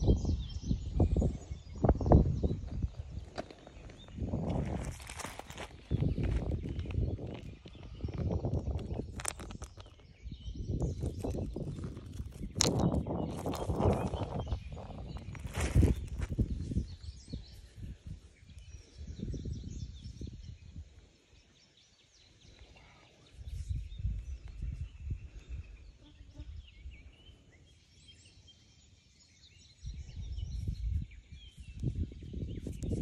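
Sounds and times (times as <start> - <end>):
wind buffeting microphone: 0.0 - 21.1, 23.4 - 27.3, 29.6 - 33.0
birds chirping: 0.0 - 33.0.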